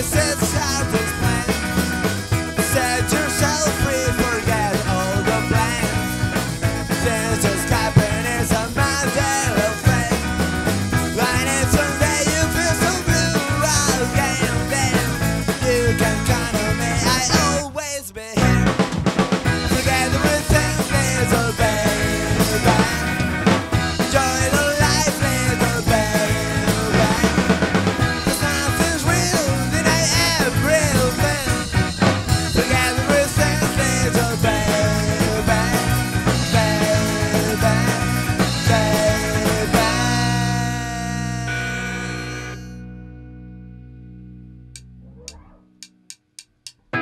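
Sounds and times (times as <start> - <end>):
rock band playing live: 0.0 - 43.9.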